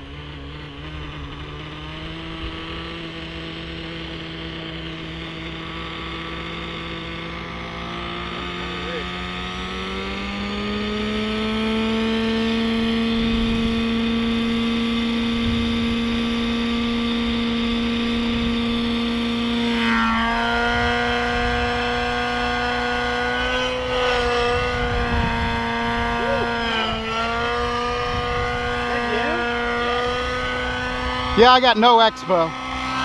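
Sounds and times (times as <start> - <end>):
model helicopter engine whine: 0.0 - 33.0.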